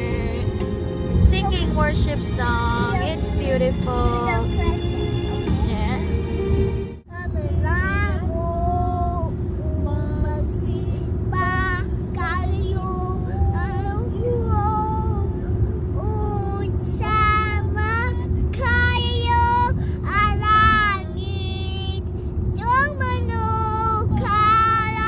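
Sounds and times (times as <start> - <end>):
girl singing: 0.0 - 0.6, 1.3 - 6.2, 7.1 - 25.0
car cabin rumble: 0.0 - 25.0.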